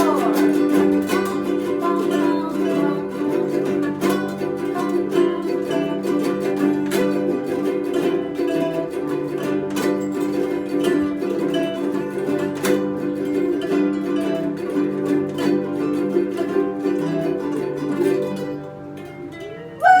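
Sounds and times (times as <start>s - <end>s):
plucked string instruments playing: 0.0s - 20.0s.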